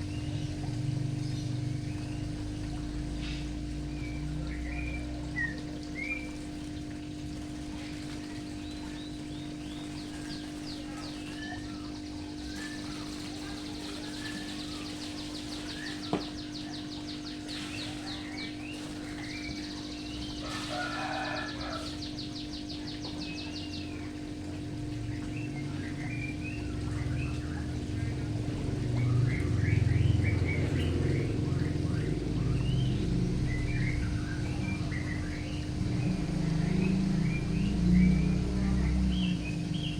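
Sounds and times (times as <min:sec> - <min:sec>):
songbirds chirping: 0:00.0 - 0:39.9
steady low hum: 0:00.0 - 0:39.9.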